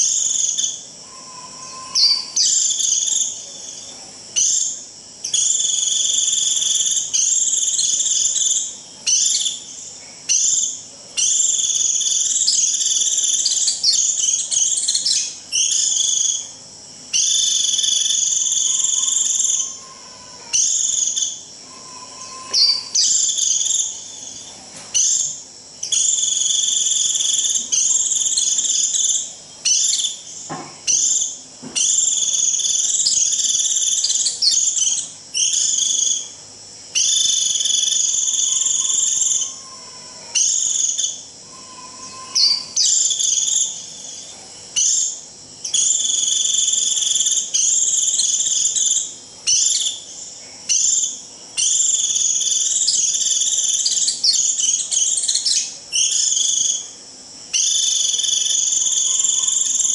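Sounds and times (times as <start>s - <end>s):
bird shrill buzzy trill: 0.0s - 59.9s.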